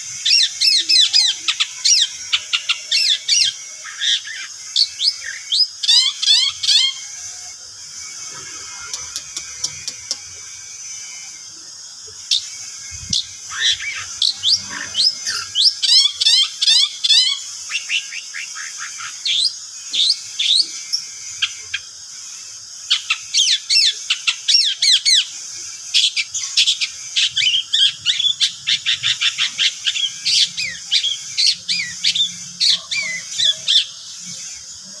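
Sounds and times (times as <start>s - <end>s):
bird singing sharp chattering notes: 0.0s - 34.6s.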